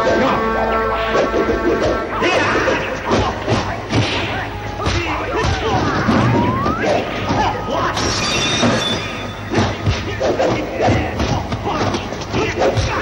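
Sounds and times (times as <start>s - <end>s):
film music: 0.0s - 13.0s.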